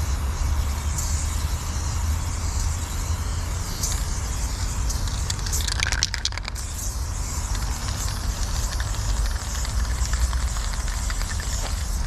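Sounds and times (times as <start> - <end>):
spray paint can hissing: 0.0 - 12.0.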